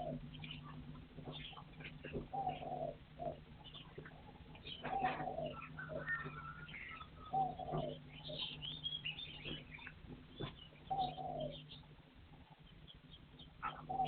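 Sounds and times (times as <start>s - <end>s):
partridge low call: 0.0s - 11.9s, 12.5s - 14.0s
faint steady hum: 0.0s - 14.0s.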